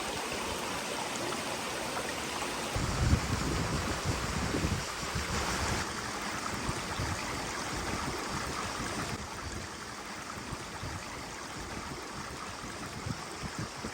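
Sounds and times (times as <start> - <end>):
river water rushing: 0.0 - 11.7.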